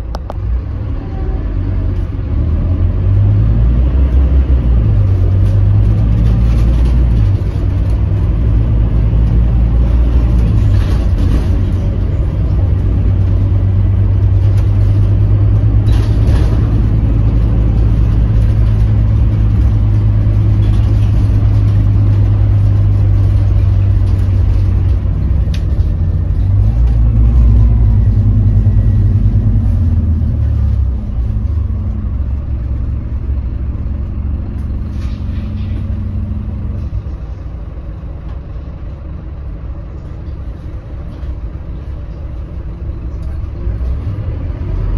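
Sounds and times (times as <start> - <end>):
bus engine rumbling: 0.0 - 44.9.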